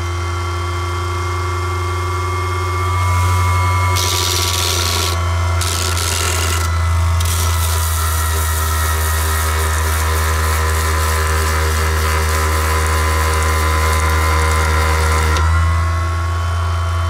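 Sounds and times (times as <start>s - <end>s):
cordless polisher running: 0.0s - 17.0s.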